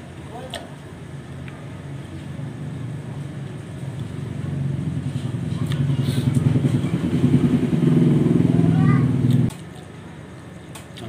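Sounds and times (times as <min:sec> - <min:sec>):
vehicle engine rumbling: 0:00.0 - 0:10.6.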